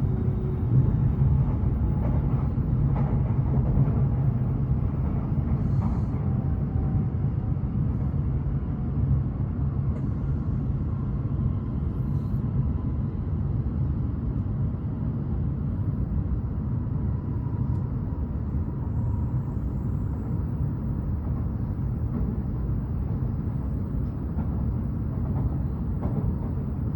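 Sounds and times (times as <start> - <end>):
train rumble inside cabin: 0.0 - 26.9.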